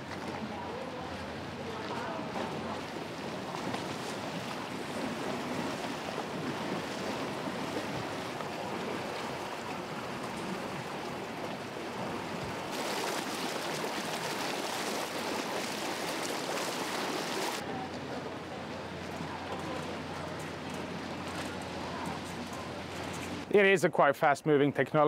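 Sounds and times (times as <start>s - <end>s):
water rushing along boat hull: 0.0s - 23.8s.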